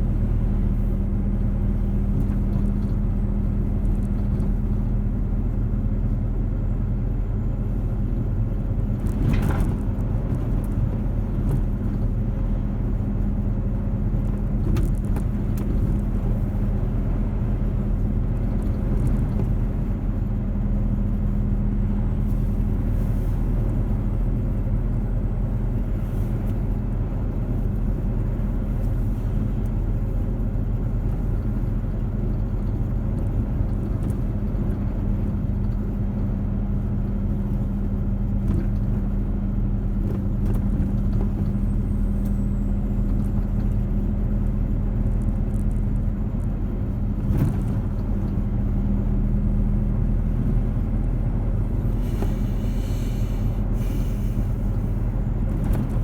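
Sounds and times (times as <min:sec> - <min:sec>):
low rumble with hum: 0:00.0 - 0:56.0.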